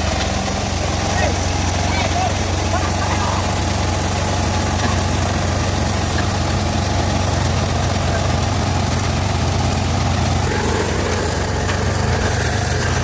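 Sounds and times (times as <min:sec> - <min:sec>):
sawmill motor droning: 0:00.0 - 0:13.0.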